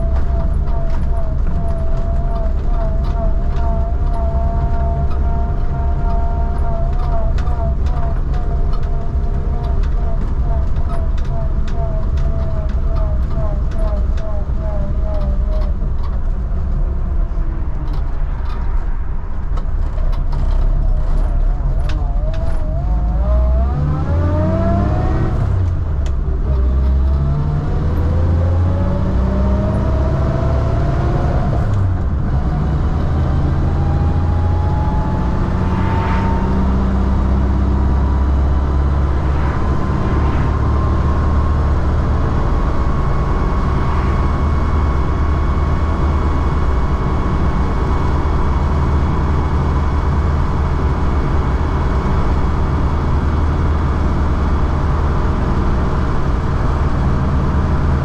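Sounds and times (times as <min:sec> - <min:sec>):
car engine whining: 0:00.0 - 0:58.0.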